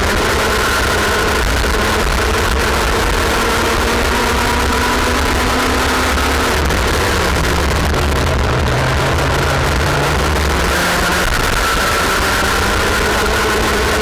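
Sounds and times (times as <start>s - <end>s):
kart engine at racing speed: 0.0s - 14.0s.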